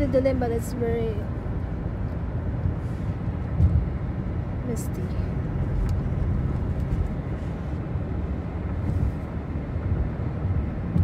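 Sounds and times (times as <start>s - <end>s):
car driving rumble from inside: 0.0s - 11.0s.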